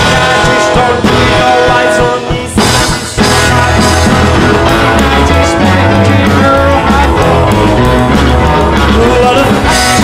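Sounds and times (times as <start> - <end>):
rock and roll music with singing: 0.0 - 10.0.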